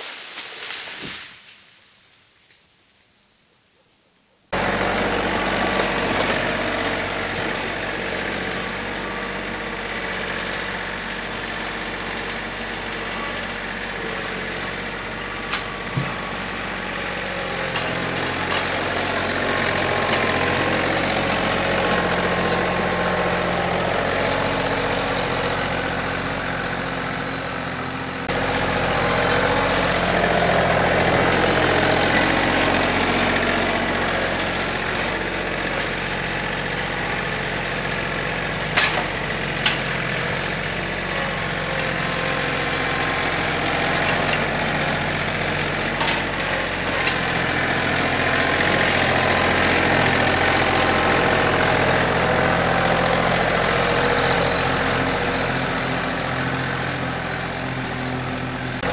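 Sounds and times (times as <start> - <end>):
tractor diesel engine running: 4.5 - 58.9.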